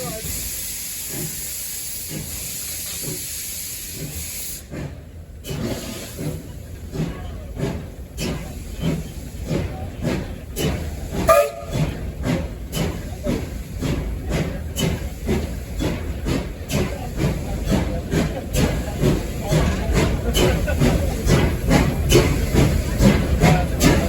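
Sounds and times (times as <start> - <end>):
hiss of escaping steam: 0.0 - 24.0
steam locomotive chuffing: 0.0 - 24.0.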